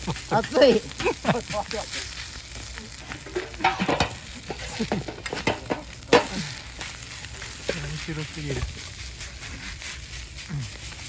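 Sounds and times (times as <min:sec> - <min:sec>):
rice sizzling in a frying pan: 0:00.0 - 0:11.0
utensil scraping and clanking on pan: 0:00.0 - 0:11.0.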